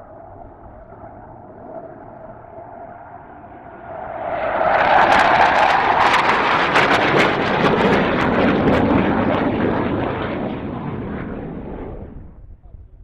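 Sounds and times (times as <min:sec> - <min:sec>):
jet roaring past: 0:00.0 - 0:12.4.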